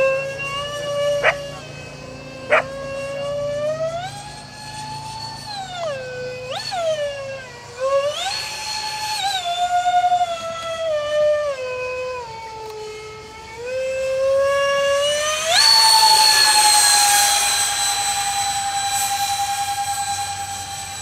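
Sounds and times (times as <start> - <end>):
electric ducted fans whining: 0.0 - 21.0.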